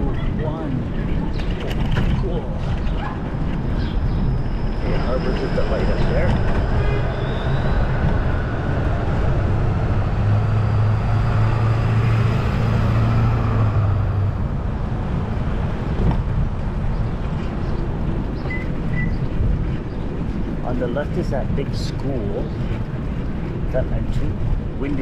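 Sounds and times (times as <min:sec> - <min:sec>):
passing vehicle engine hum: 0:00.0 - 0:25.0
road traffic rushing: 0:00.0 - 0:25.0.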